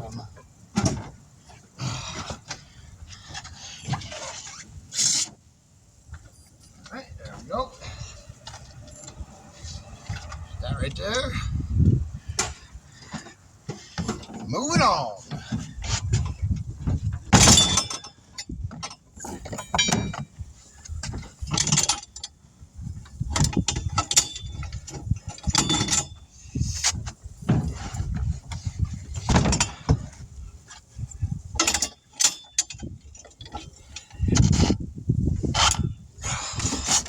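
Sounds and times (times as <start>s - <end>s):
tire tools clanking on steel rim: 6.1s - 11.6s, 12.2s - 37.0s.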